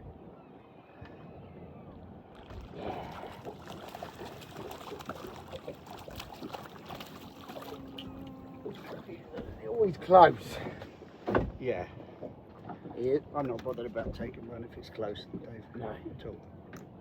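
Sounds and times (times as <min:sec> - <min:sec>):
water sloshing around boat: 0:00.0 - 0:17.0.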